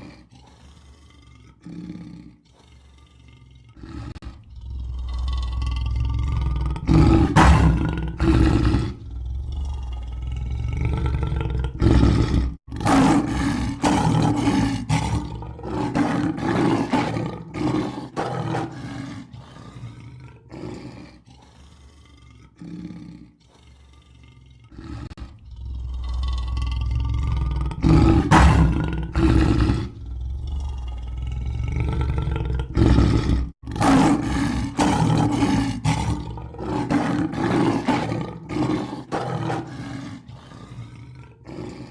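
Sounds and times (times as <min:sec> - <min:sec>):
lion roaring: 0:00.0 - 0:41.9.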